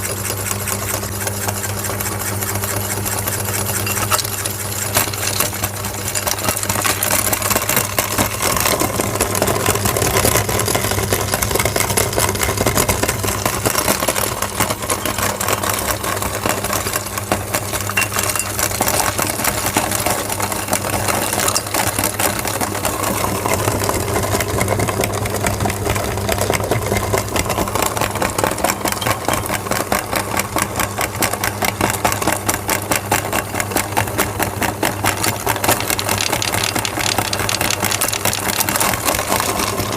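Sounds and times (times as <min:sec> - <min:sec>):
meat grinder motor humming: 0:00.0 - 0:39.9
crayons crunching with rapid crackle: 0:00.2 - 0:39.9.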